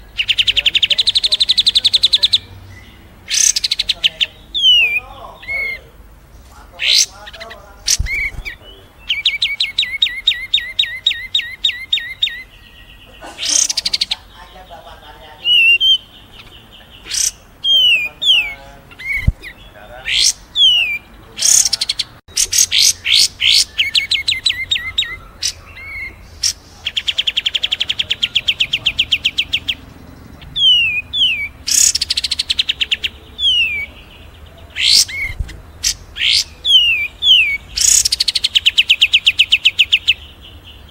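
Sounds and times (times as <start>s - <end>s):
songbirds singing: 0.0s - 40.9s
sparrow calls: 0.0s - 40.9s.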